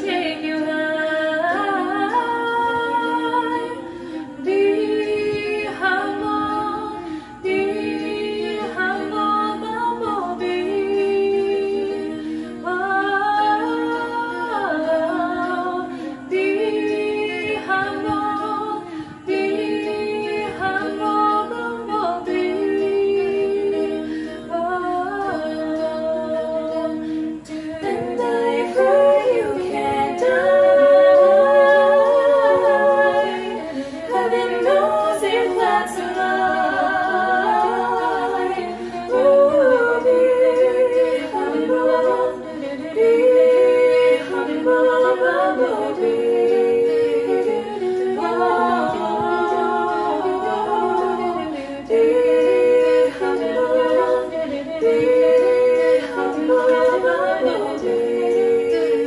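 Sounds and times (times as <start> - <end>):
women singing a cappella harmony: 0.0 - 59.0.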